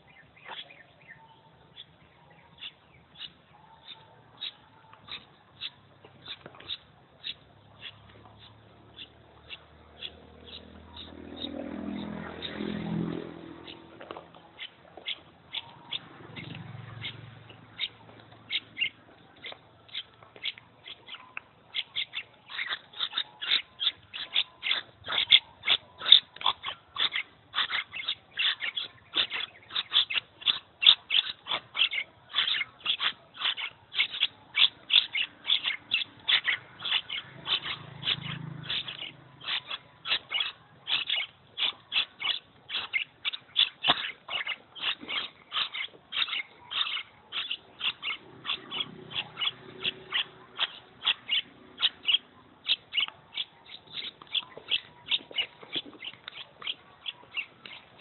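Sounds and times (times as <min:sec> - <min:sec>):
young birds cheeping: 0:00.0 - 0:58.0.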